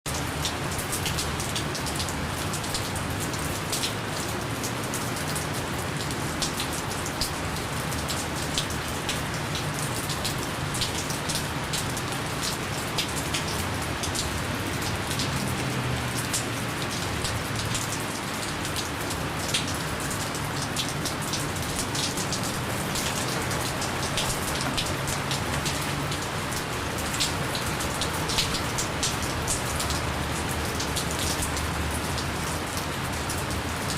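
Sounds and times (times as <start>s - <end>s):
gentle rain falling: 0.1s - 33.9s.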